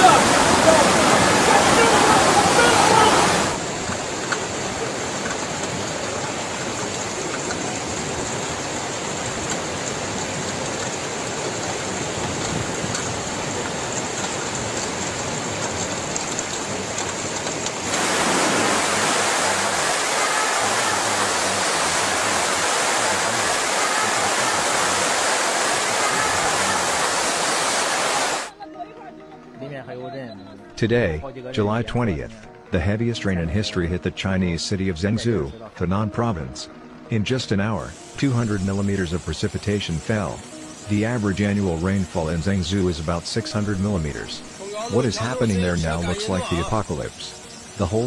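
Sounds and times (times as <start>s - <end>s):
floodwater rushing: 0.0s - 28.5s, 37.8s - 48.0s.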